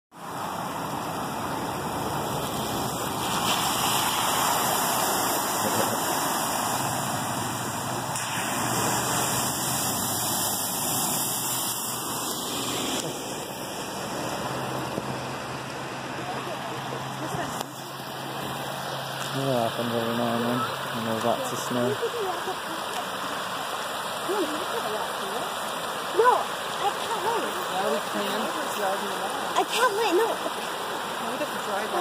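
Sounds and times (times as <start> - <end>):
water rushing over road: 0.1 - 32.0.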